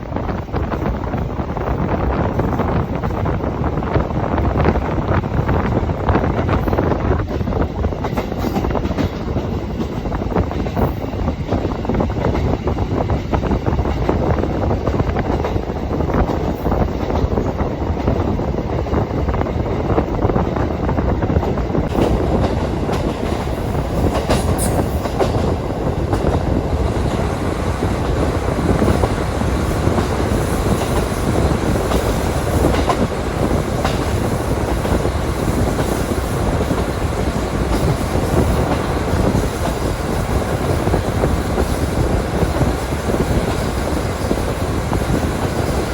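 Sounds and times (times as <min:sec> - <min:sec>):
railcar engine and wheel noise: 0:00.0 - 0:45.9.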